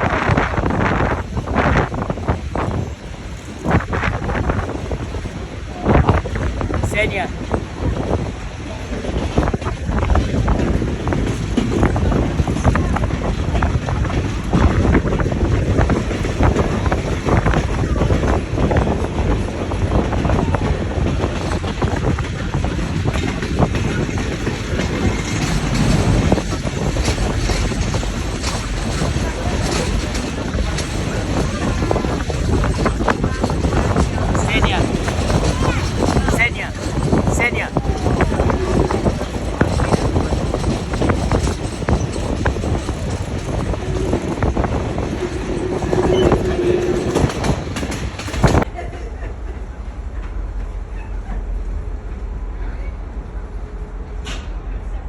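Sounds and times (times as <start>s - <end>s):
wind buffeting microphone: 0.0s - 48.7s
train cars rumbling on track: 0.0s - 55.0s
wheels clicking and rattling: 0.2s - 48.7s.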